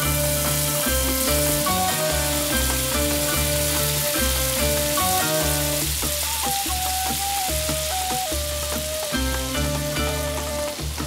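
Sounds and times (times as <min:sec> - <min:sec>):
background music with bass line: 0:00.0 - 0:11.0
onions sizzling in hot oil: 0:00.0 - 0:11.0.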